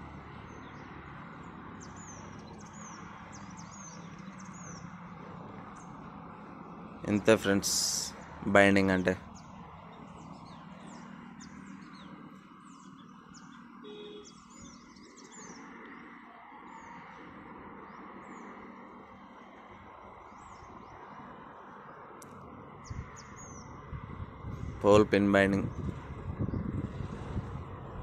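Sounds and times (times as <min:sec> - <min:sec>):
small birds chirping: 0:00.2 - 0:24.0, 0:25.2 - 0:27.2.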